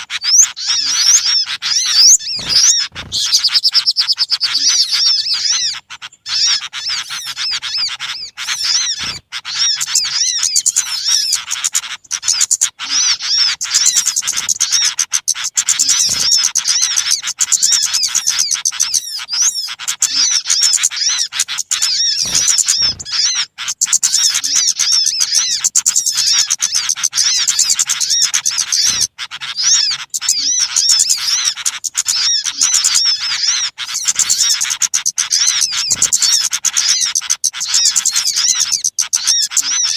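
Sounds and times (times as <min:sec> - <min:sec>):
small birds chattering and chirping: 0:00.0 - 0:39.9.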